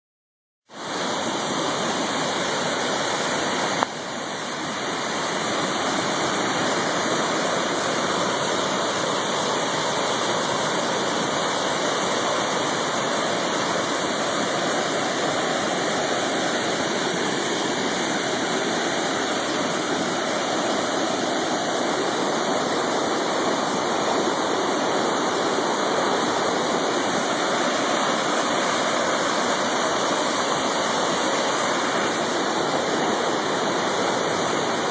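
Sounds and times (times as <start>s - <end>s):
river rushing: 0.7s - 34.9s.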